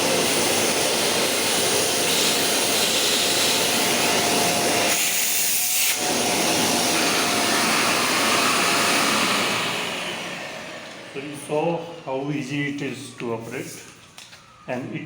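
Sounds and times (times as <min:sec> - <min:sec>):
vacuum cleaner running: 0:00.0 - 0:14.6.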